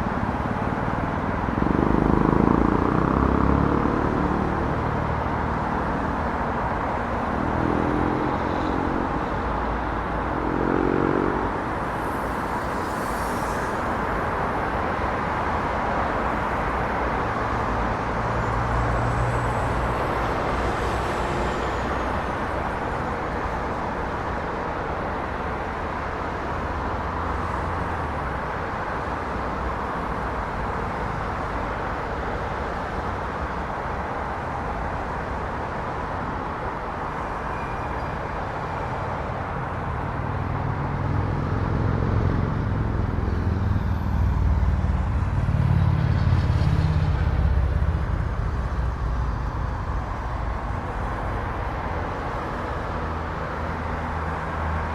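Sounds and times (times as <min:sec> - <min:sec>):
vehicle engine rumble: 0:00.0 - 0:37.5, 0:38.4 - 0:54.9
passing cars: 0:00.0 - 0:54.9.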